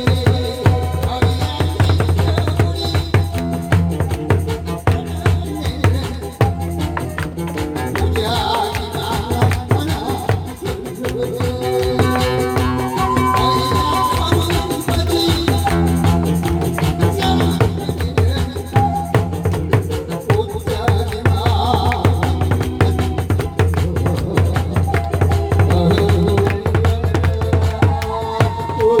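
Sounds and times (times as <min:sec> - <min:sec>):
upbeat backing music: 0:00.0 - 0:29.0.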